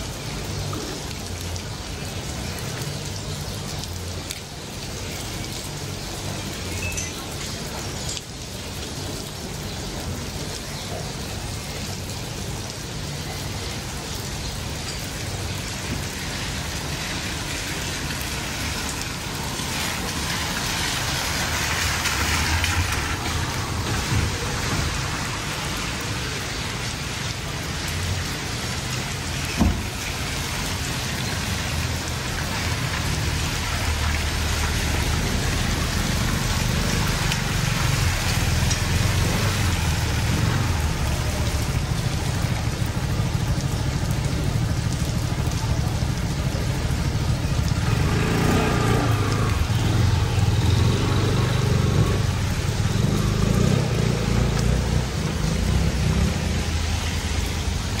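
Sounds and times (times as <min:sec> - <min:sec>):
car driving on wet road: 0:00.0 - 0:58.0
rain on a wet street: 0:00.0 - 0:58.0.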